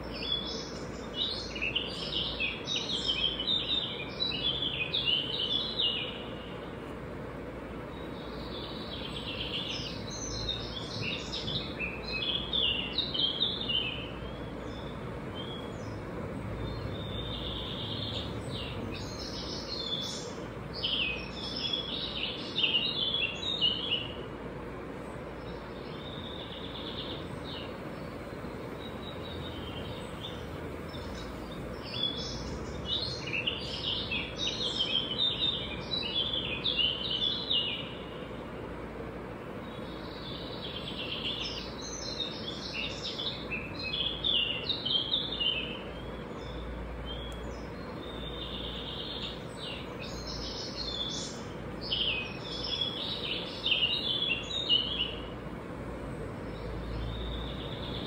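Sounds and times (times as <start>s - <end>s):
birds chirping: 0.0s - 58.0s
steady background hiss: 0.0s - 58.0s.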